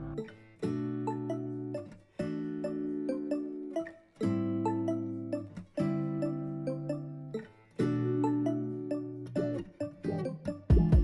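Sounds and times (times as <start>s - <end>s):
light instrumental music: 0.0s - 11.0s.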